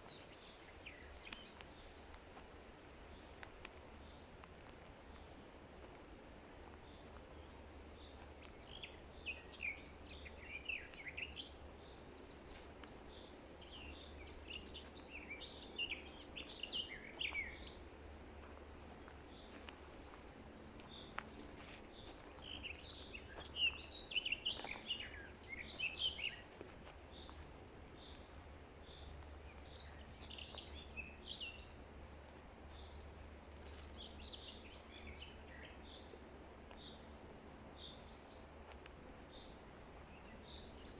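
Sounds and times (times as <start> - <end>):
songbirds chirping and singing: 0.0 - 2.4, 3.1 - 40.9
faint steady background hum: 0.0 - 40.9.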